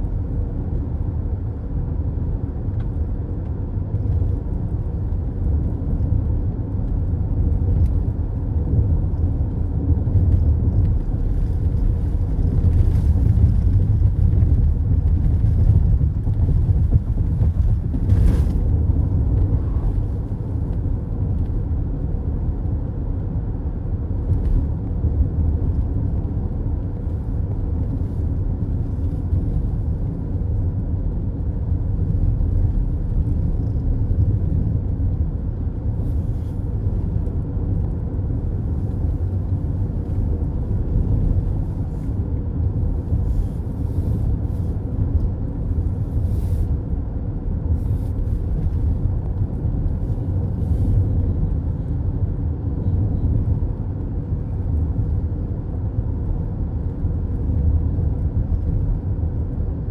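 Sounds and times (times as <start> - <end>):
car road rumble from cabin: 0.0 - 59.9.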